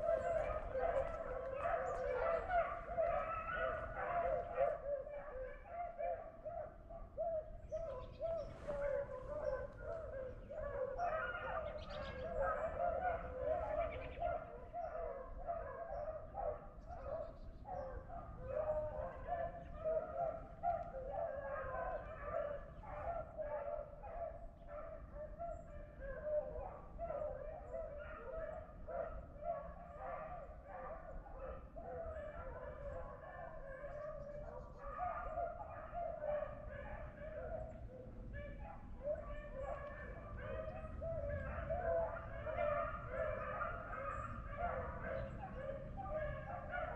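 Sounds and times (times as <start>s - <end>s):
hounds baying: 0.0s - 46.9s.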